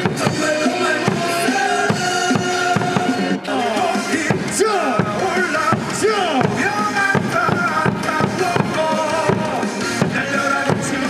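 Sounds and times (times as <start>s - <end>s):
cheer music over loudspeakers: 0.0s - 11.0s.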